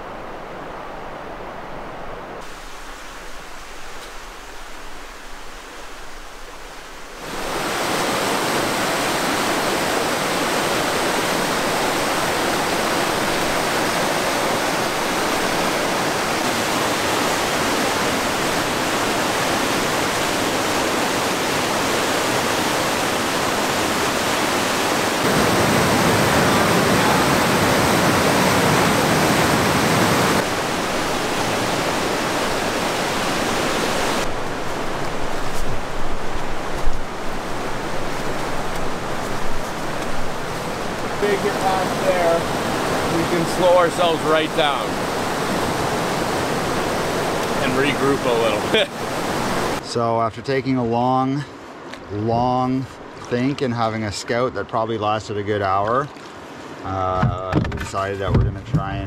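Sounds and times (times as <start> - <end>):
river rapids roaring: 0.0 - 49.8.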